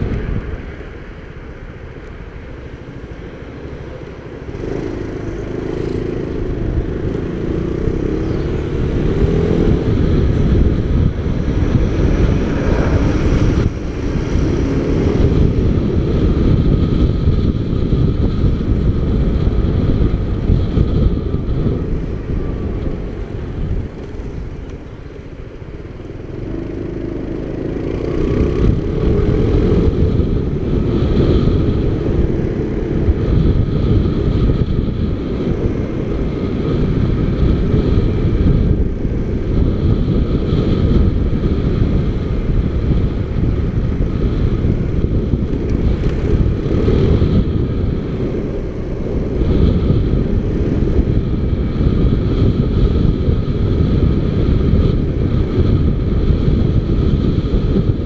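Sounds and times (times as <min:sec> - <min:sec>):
motorcycle engine riding: 0:00.0 - 0:58.0.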